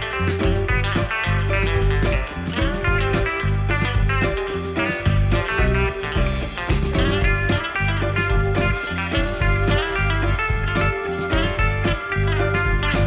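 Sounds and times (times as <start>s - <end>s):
plucked guitar music with beat: 0.0s - 13.0s.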